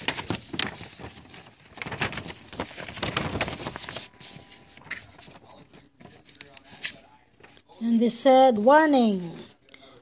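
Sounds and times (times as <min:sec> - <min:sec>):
paper sheets rustling: 0:00.0 - 0:08.0.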